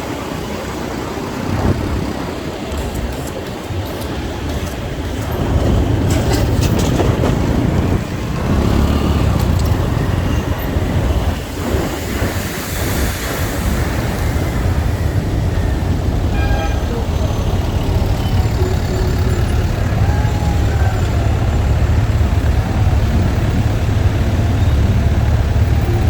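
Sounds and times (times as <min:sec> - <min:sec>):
motorcycle engine rumble: 0:00.0 - 0:26.0
road traffic: 0:00.0 - 0:26.0.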